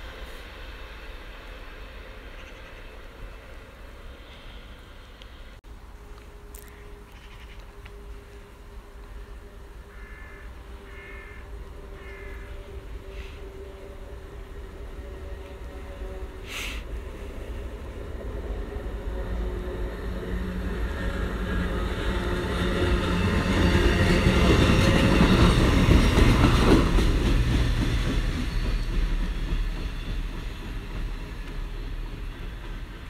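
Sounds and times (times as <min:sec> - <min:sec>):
train passing: 0:00.0 - 0:33.0.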